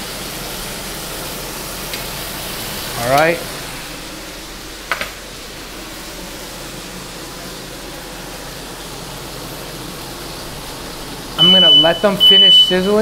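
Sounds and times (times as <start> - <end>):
steaks sizzling in a skillet: 0.0 - 13.0.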